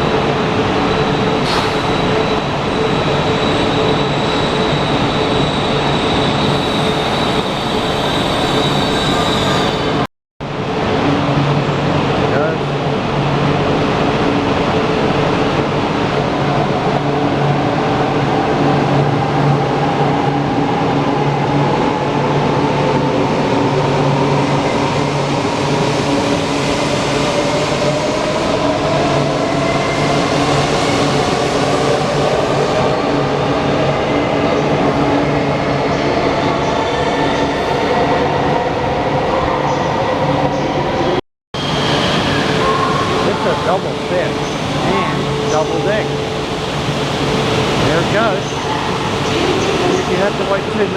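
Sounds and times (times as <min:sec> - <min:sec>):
train running hum: 0:00.0 - 0:50.9.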